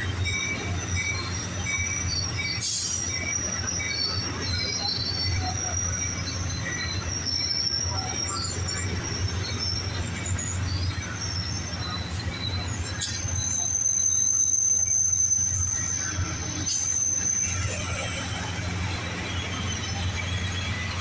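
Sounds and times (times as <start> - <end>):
railcars rolling with low rumble: 0.0 - 21.0
thin steady high squeal: 0.0 - 21.0
wheel squeal: 0.0 - 21.0
short high squeaks: 0.3 - 21.0.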